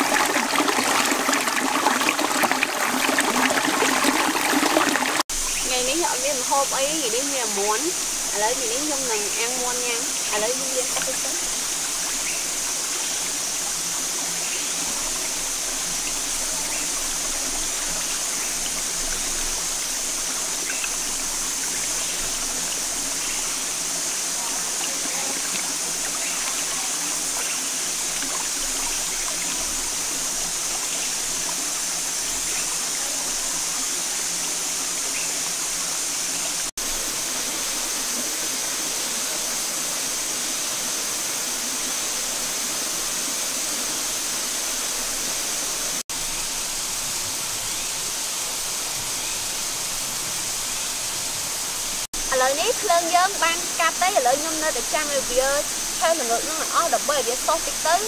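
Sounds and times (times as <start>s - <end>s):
stream water rushing over stones: 0.0s - 58.0s.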